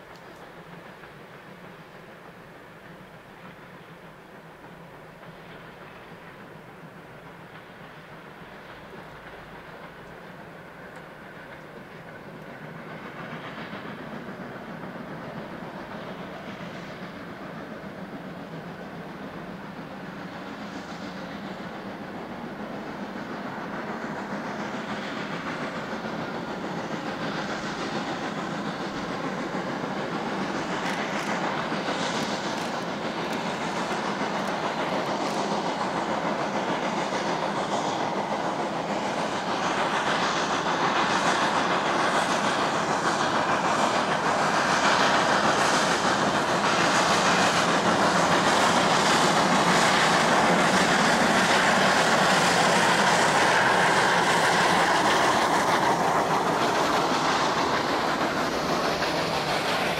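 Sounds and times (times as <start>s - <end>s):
steam locomotive exhaust beat: 0.0s - 59.9s.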